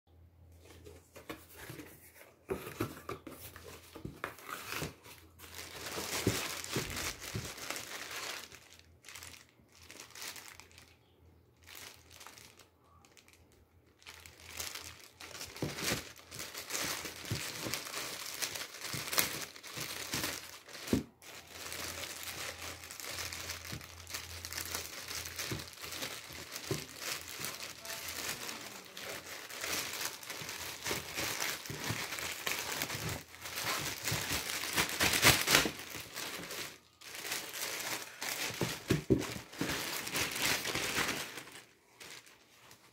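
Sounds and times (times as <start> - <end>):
plastic bag crinkling: 2.8 - 42.9.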